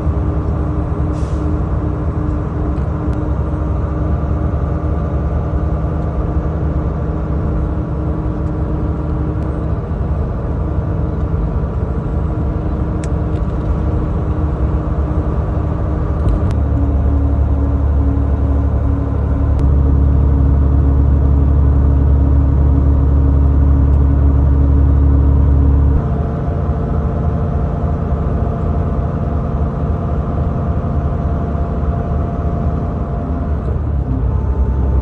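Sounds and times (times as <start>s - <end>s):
road noise: 0.0s - 35.0s
truck engine drone: 0.0s - 35.0s.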